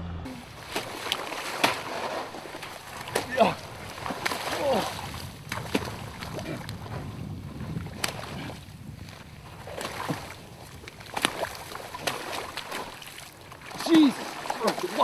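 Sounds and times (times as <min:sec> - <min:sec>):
icy water sloshing and splashing: 0:00.3 - 0:15.0.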